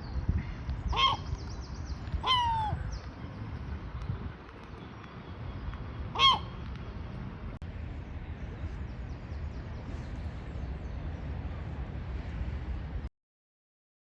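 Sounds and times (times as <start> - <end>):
steady low rumble: 0.0 - 13.1.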